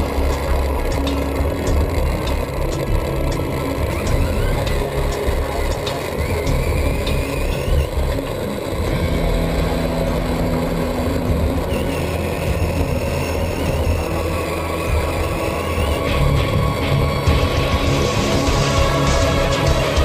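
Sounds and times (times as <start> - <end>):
low drivetrain hum: 0.0 - 20.0
toy truck motor whining: 0.0 - 20.0.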